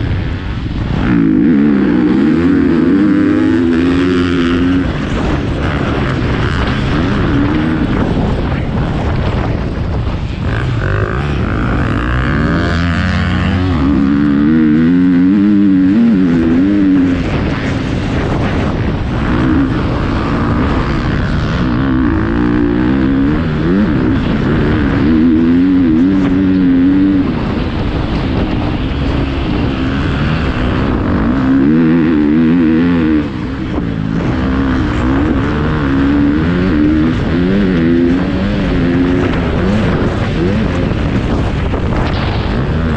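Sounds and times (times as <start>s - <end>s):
motocross engine revving: 0.2s - 42.9s.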